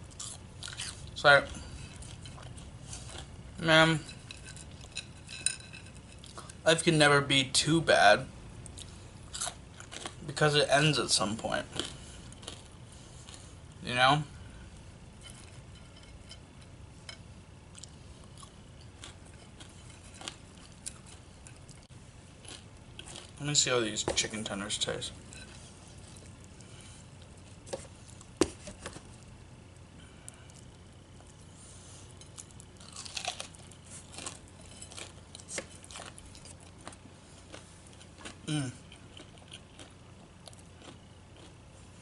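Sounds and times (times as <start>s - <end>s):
food crunching while chewed: 0.0s - 6.6s, 8.6s - 10.3s, 11.6s - 13.8s, 15.2s - 23.6s, 24.9s - 41.8s
low steady hum: 0.0s - 42.0s.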